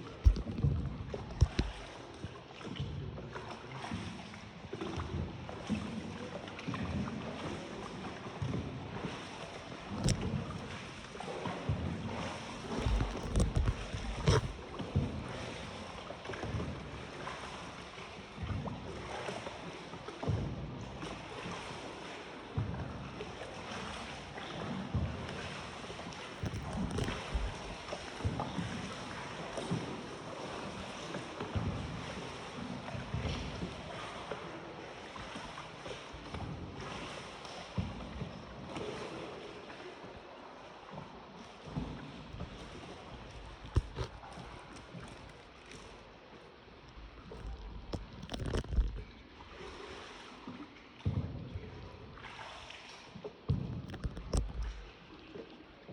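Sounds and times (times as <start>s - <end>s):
water splashing and lapping: 0.0s - 55.9s.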